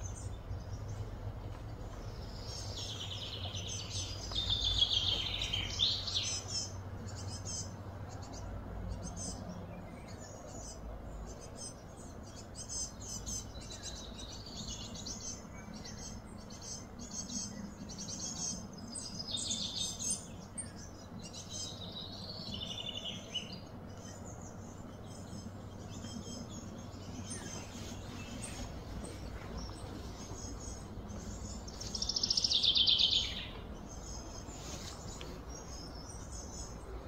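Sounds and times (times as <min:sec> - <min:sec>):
birds chirping: 0:00.0 - 0:37.0
low outdoor noise: 0:00.0 - 0:37.0.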